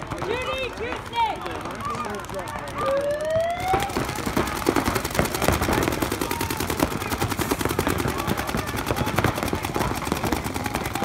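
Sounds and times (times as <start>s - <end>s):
paintball markers firing rapid pops: 0.0s - 11.0s.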